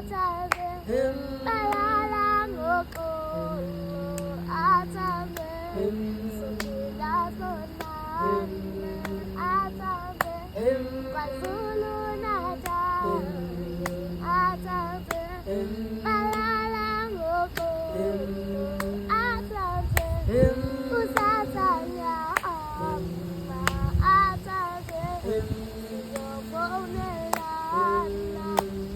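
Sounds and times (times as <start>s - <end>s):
high voice singing: 0.0s - 28.9s.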